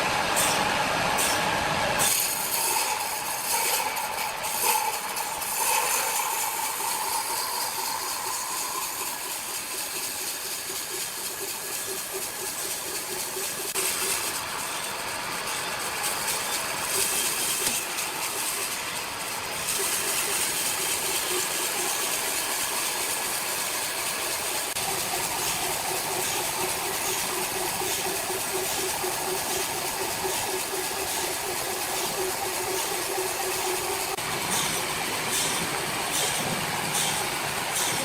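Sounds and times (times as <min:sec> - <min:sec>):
sawmill machinery whirring: 0:00.0 - 0:38.0.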